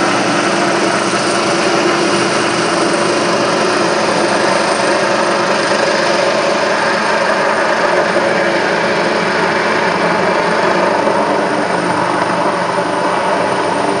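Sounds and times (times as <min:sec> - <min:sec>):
helicopter engines and rotor: 0:00.0 - 0:14.0
high turbine whine: 0:00.0 - 0:14.0.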